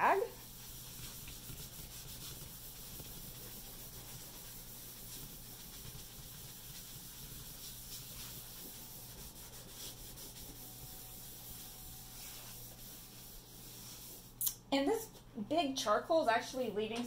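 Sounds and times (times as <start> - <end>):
cloth rubbing charcoal on paper: 0.0 - 14.4.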